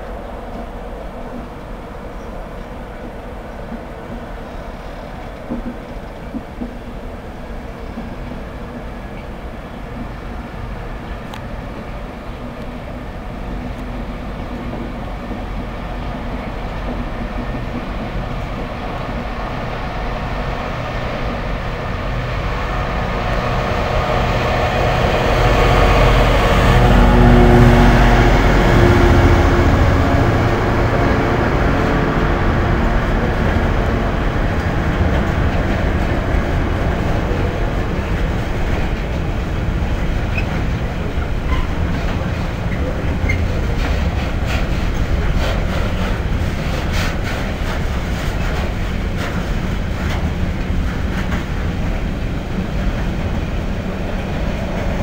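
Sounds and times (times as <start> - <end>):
diesel locomotive passing: 0.0 - 55.0.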